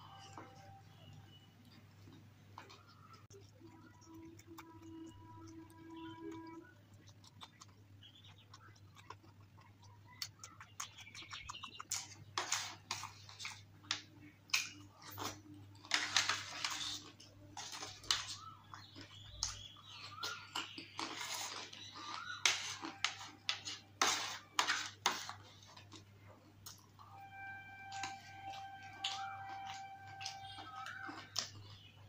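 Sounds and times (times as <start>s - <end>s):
wet chewing and crunching: 0.0s - 32.0s.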